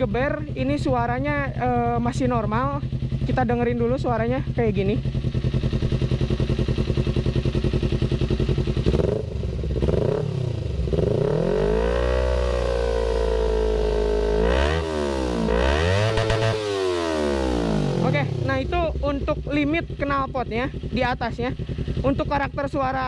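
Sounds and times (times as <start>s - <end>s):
motorcycle engine idling and revving: 0.0s - 23.0s.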